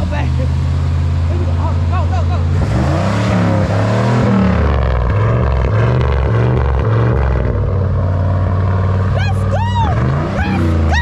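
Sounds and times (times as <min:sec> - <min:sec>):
pickup engine running: 0:00.0 - 0:11.0.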